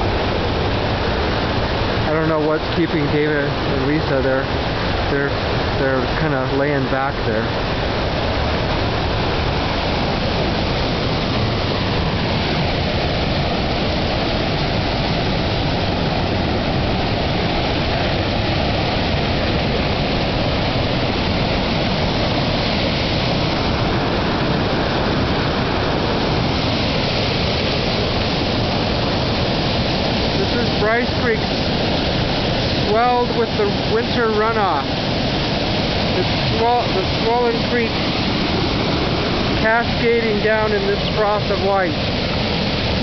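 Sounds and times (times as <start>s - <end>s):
water rushing over boulders: 0.0s - 43.0s.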